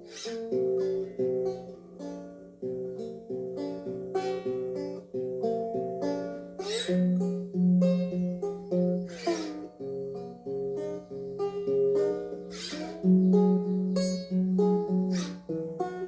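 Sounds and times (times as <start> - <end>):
slide guitar notes: 0.0 - 16.0.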